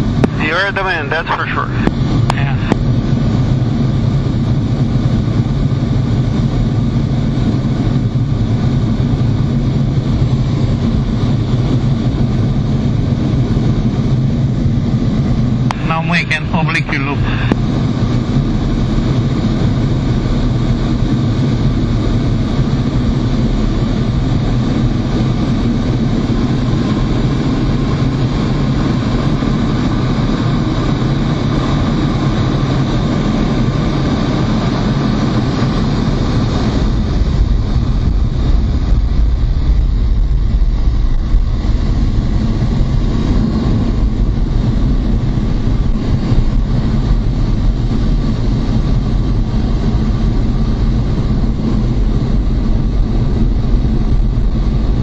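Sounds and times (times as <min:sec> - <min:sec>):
jet engines droning: 0:00.0 - 0:55.0.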